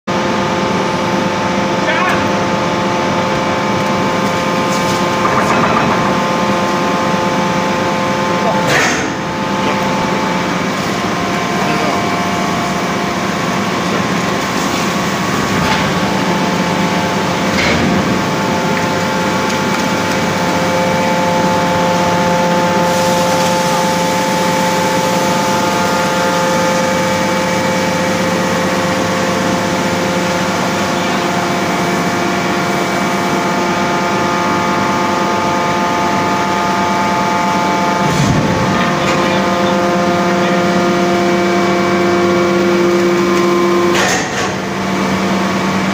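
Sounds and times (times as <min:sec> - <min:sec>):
constant machine whine: 0:00.1 - 0:45.9
hydraulic press machine hum: 0:00.1 - 0:45.9.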